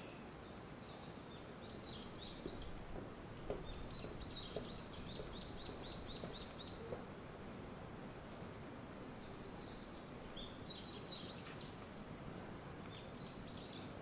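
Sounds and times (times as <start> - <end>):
small songbird chirping: 0.0 - 7.2, 9.0 - 12.0, 12.8 - 14.0
open air background noise: 0.0 - 14.0.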